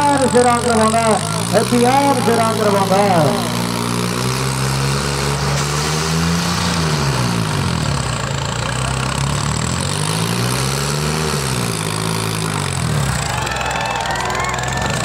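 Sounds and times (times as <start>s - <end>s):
tractor diesel engine revving: 0.0s - 15.0s.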